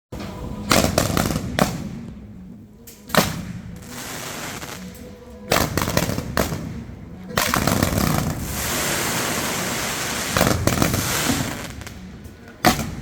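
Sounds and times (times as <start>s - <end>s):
fireworks banging: 0.4s - 2.3s, 3.1s - 13.0s.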